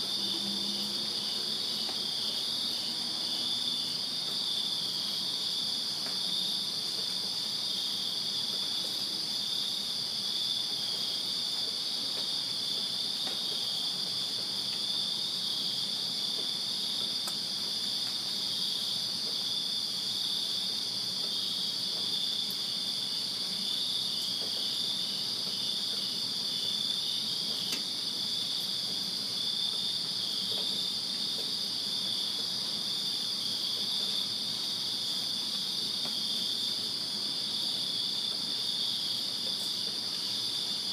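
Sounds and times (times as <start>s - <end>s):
lower pulsing cricket chirp: 0.0s - 40.9s.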